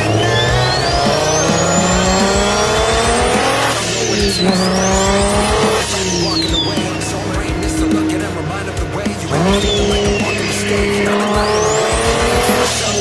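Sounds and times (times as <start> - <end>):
car engine accelerating hard: 0.0 - 13.0
high engine whine: 0.0 - 13.0.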